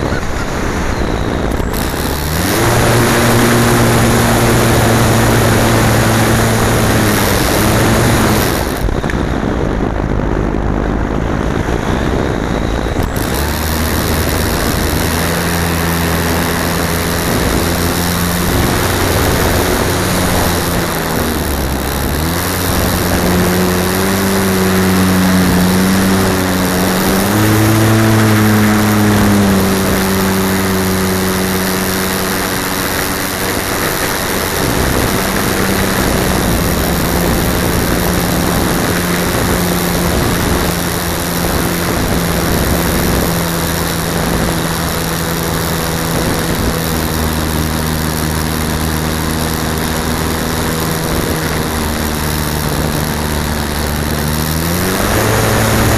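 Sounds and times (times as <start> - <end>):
air rushing over camera: 0.0 - 55.9
humming tone: 0.0 - 55.9.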